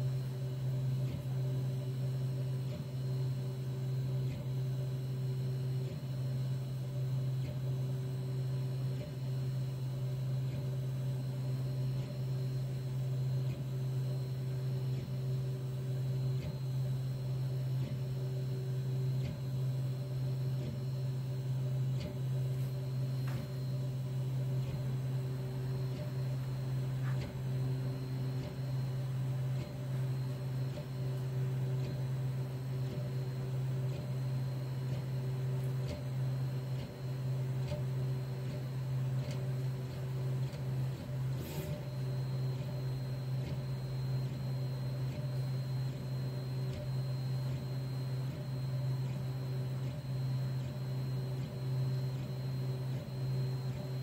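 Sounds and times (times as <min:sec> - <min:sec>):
printer humming: 0:00.0 - 0:54.0.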